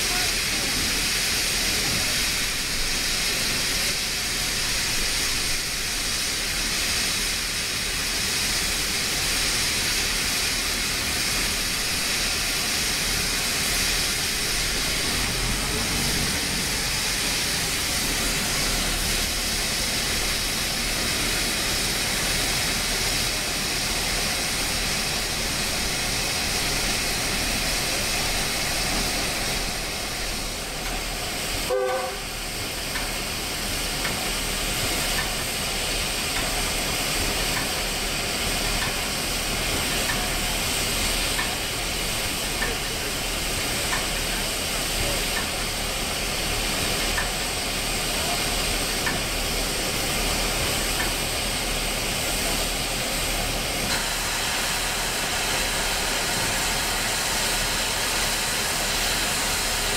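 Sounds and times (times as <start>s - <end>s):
diesel locomotives running: 0.0s - 59.9s
steam hissing from locomotive: 0.0s - 59.9s.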